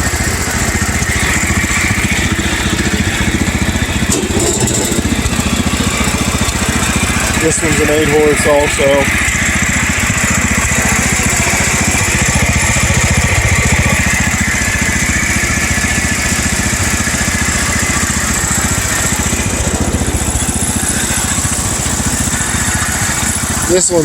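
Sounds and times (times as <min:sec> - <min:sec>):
small tractor engine idling: 0:00.0 - 0:24.0.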